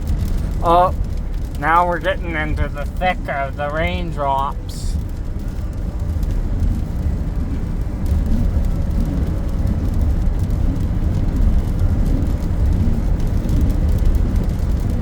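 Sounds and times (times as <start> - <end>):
raindrops clicking on car: 0.0 - 15.0
road and wind rumble: 0.0 - 15.0.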